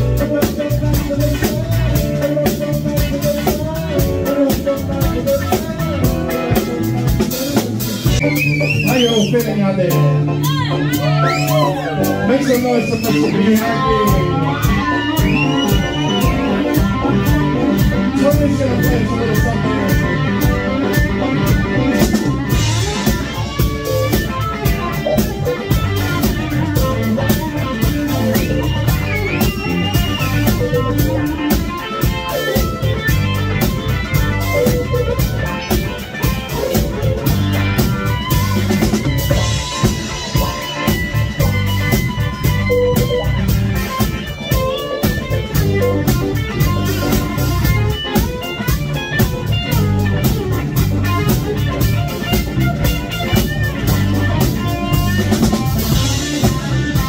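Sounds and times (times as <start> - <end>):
bass guitar: 0.0 - 57.0
drum kit: 0.0 - 57.0
guitar: 0.0 - 57.0.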